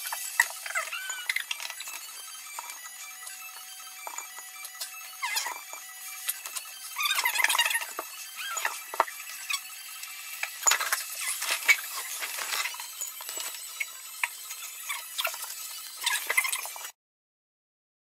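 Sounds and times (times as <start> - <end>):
spoon scraping a bowl: 0.0 - 3.4, 4.0 - 16.9.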